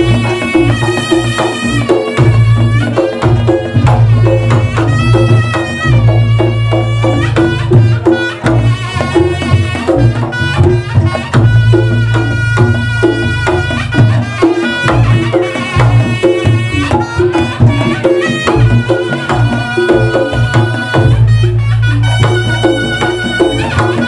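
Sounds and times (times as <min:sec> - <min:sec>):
hand drum strokes: 0:00.0 - 0:24.0
reedy melody: 0:00.0 - 0:24.0.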